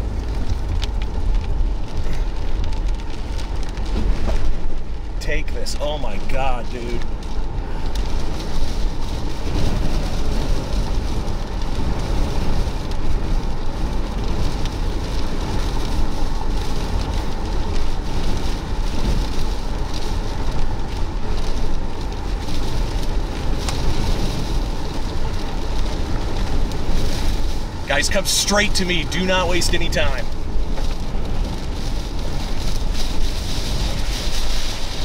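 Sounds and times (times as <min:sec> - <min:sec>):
rain hitting windshield: 0:00.0 - 0:35.0
road rumble inside car: 0:00.0 - 0:35.0
wind buffeting car: 0:00.0 - 0:35.0.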